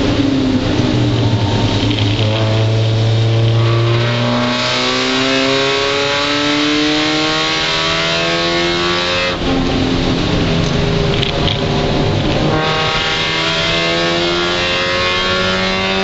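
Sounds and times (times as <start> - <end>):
car engine revving up: 0.0 - 16.0.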